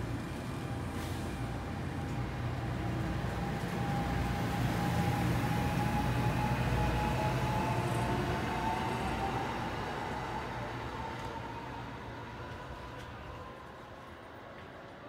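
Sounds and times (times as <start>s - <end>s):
electric train rail rumble: 0.0s - 15.0s.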